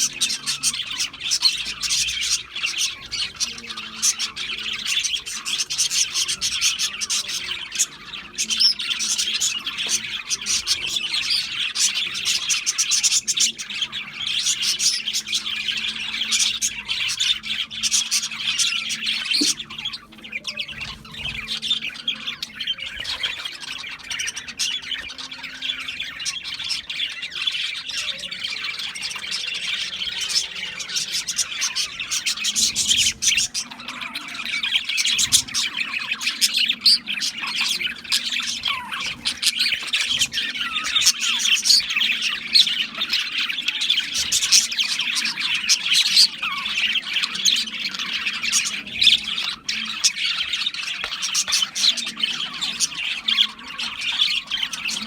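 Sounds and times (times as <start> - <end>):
budgerigars chattering and warbling: 0.0 - 55.0.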